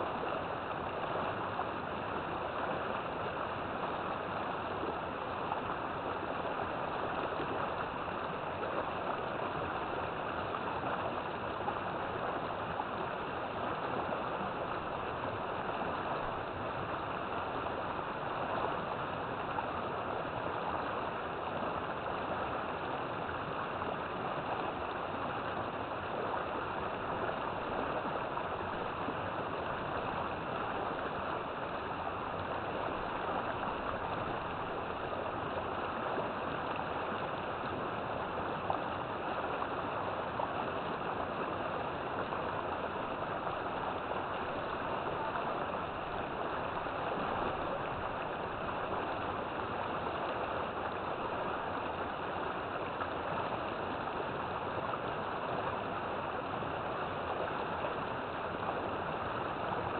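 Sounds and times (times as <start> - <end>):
river water flowing over rocks: 0.0 - 59.9.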